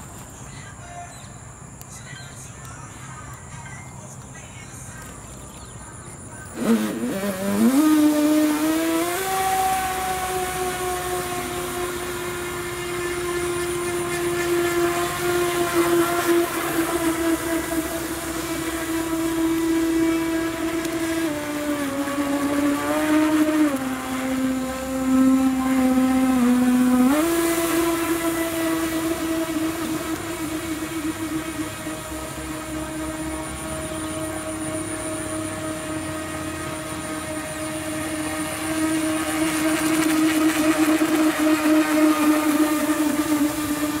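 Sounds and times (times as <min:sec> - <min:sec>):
toy jet ski motor whining: 0:06.5 - 0:44.0.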